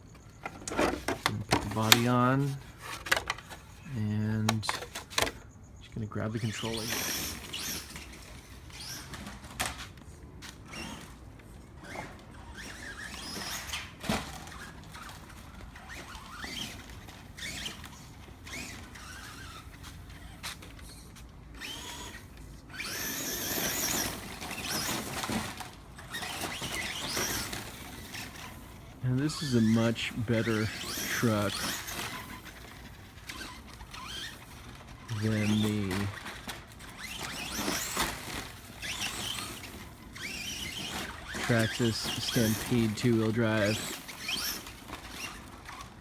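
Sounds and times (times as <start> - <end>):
electric motor whining: 6.2 - 46.0.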